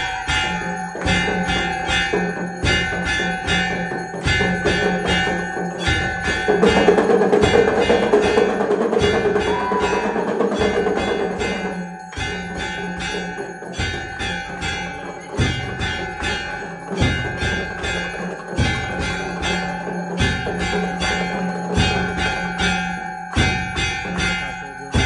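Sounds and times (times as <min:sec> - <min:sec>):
struck percussion: 0:00.0 - 0:25.0
temple bells ringing: 0:00.0 - 0:25.0.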